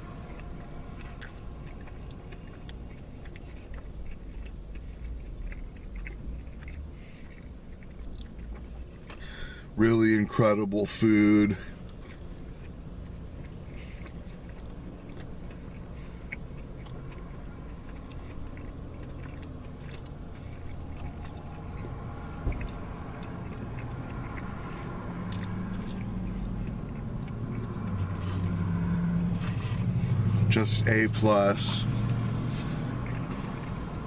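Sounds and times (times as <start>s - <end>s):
person chewing food: 0.0s - 9.8s, 11.0s - 34.0s
mouth clicks and crunches: 0.0s - 10.2s, 11.2s - 34.0s
low steady hum: 0.0s - 34.0s.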